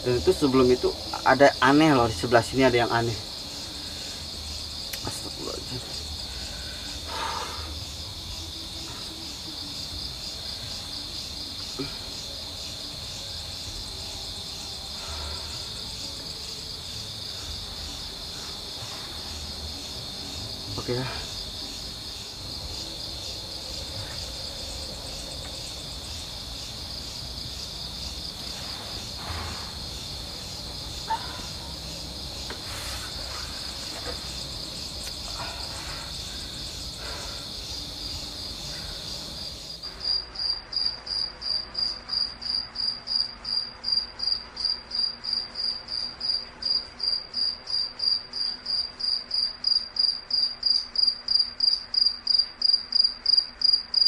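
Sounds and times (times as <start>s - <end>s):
insects chirring in a high trill: 0.0s - 54.0s.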